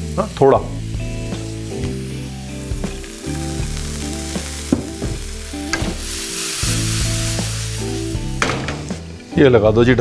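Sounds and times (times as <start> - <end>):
vegetables sizzling in oil: 0.0 - 9.6
soft background music: 0.0 - 10.0.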